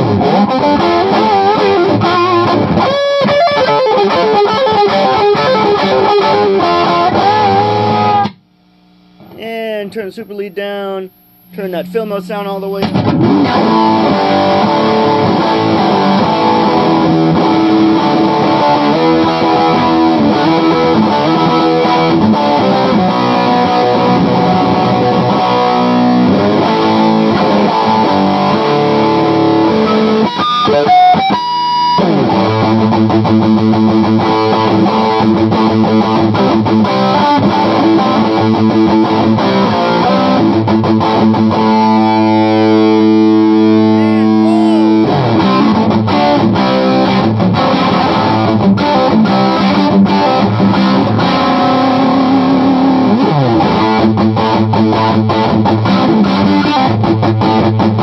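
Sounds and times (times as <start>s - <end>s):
electric guitar through loud amp: 0.0s - 58.0s.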